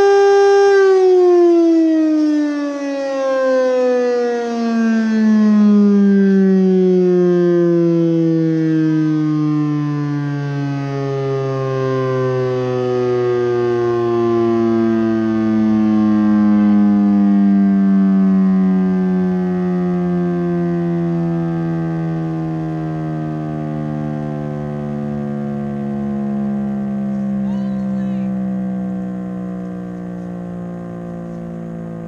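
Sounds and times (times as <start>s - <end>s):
warning siren winding down: 0.0s - 32.0s.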